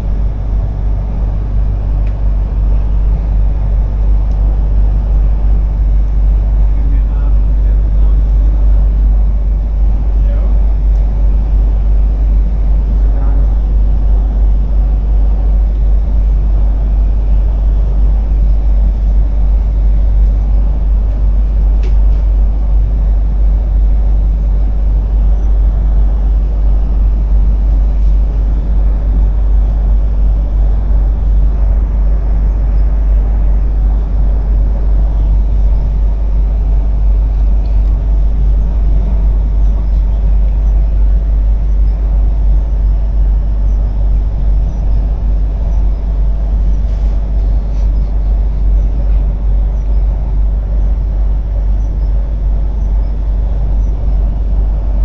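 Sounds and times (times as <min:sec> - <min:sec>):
faint steady hum: 0:00.0 - 0:55.0
train rumbling: 0:00.0 - 0:55.0.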